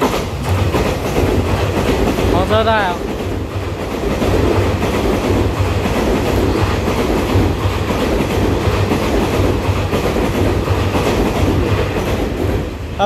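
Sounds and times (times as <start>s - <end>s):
train passing at speed: 0.0s - 13.0s.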